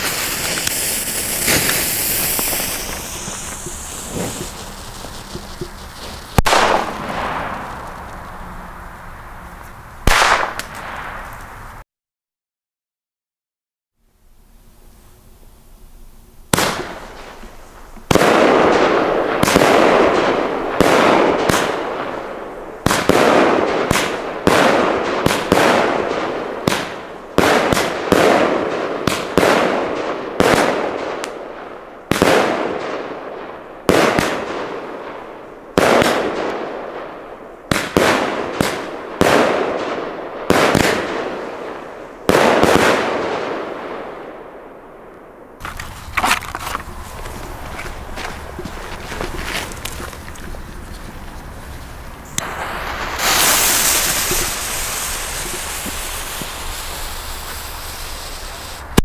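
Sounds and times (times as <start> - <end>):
fireworks firing: 0.0 - 11.8, 16.5 - 59.0.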